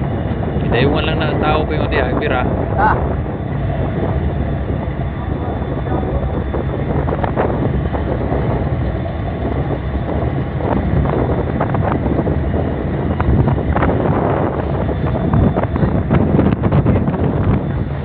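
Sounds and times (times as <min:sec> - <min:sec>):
ship engines rumbling: 0:00.0 - 0:18.0
wind buffeting microphone: 0:00.0 - 0:18.0.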